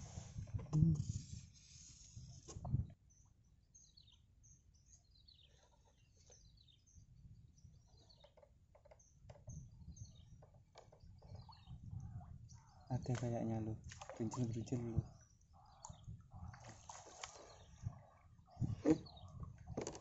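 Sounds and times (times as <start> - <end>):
small birds chirping: 3.0 - 20.0.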